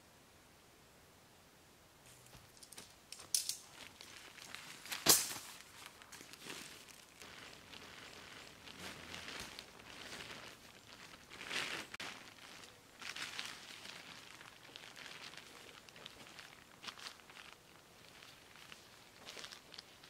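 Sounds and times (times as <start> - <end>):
leaves and tent fabric rustling: 2.0 - 20.0.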